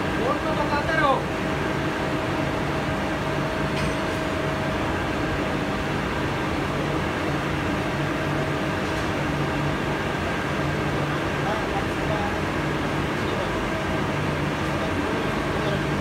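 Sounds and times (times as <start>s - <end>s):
gear drive mechanical hum: 0.0s - 16.0s.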